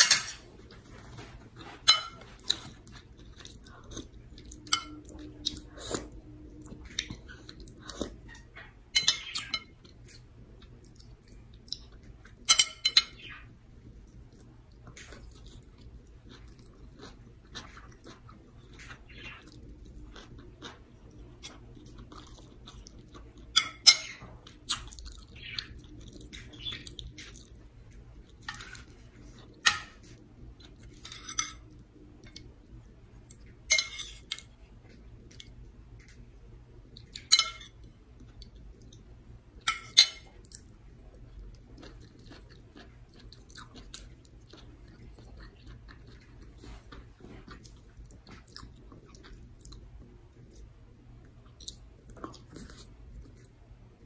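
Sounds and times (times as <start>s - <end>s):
person chewing food: 0.4s - 54.0s.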